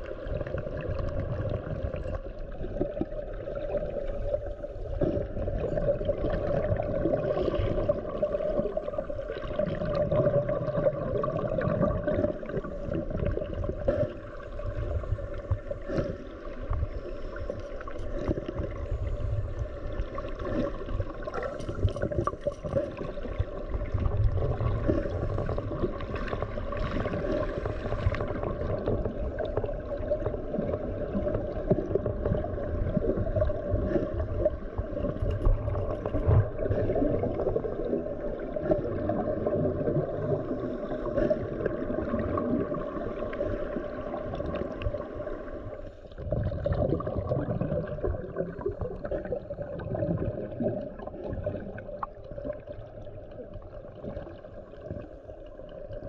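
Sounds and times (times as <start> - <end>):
underwater bubbling: 0.0 - 56.0.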